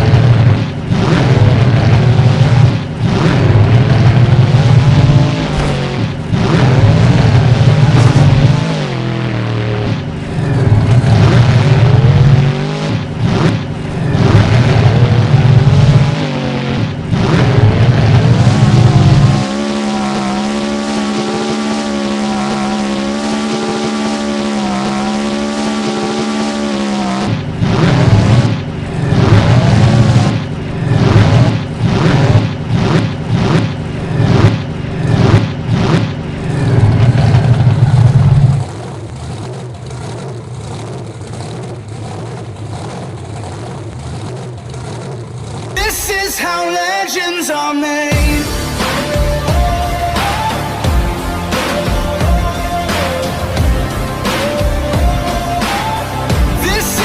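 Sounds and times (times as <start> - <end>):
monster truck engine revving: 0.0 - 47.0, 48.1 - 57.0.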